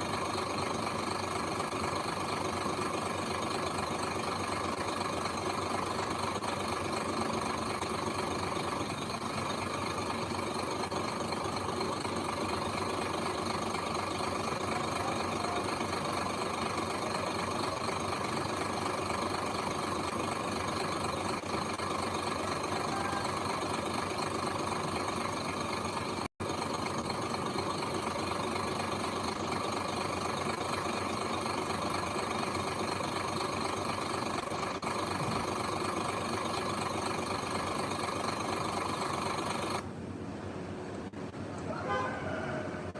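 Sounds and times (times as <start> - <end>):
heavy machinery diesel engine running: 0.0 - 42.9.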